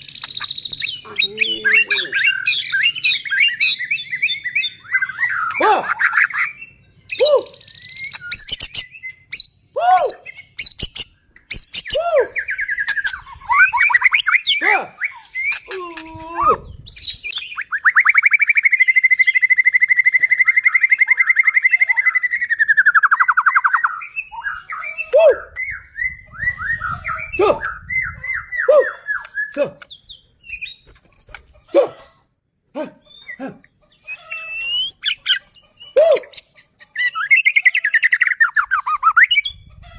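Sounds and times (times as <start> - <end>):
bird song whistles: 0.0 - 30.8, 34.0 - 39.6.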